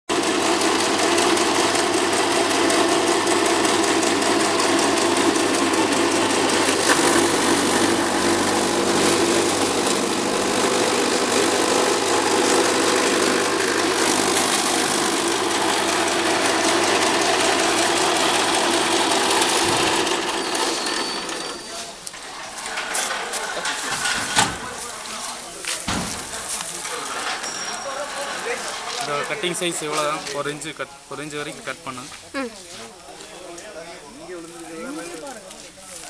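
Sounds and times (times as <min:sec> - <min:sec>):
chaff cutter machine running: 0:00.1 - 0:31.3.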